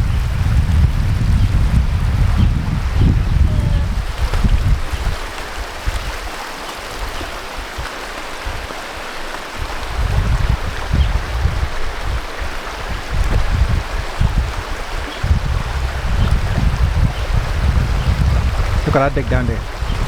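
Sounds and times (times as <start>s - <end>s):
flowing water rushing: 0.0s - 20.0s
wind buffeting microphone: 0.0s - 20.0s.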